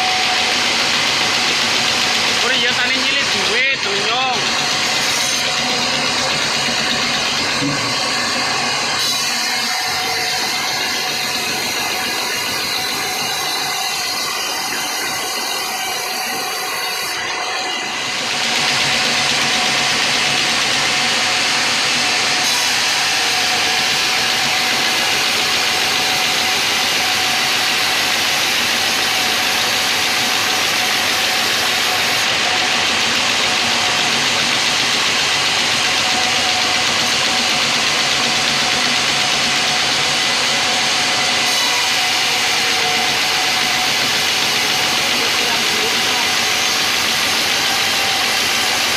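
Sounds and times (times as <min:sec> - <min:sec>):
band saw whining: 0:00.0 - 0:48.9
saw blade cutting log: 0:00.0 - 0:48.9.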